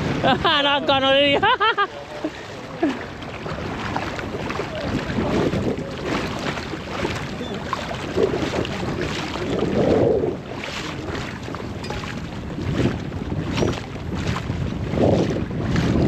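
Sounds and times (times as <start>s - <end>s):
water lapping against hull: 0.0s - 16.0s
wind rumbling on microphone: 0.0s - 16.0s.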